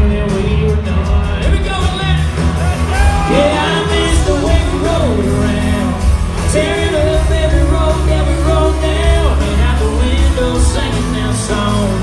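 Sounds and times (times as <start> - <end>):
country band playing: 0.0 - 12.0
heavy steady bass: 0.0 - 12.0
person singing lead vocals: 0.0 - 12.0.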